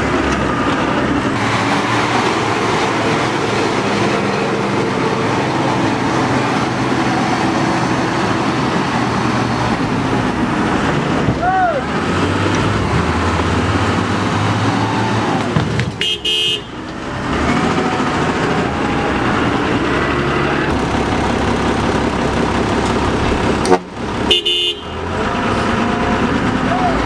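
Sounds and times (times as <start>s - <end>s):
heavy diesel engines under load: 0.0s - 27.0s.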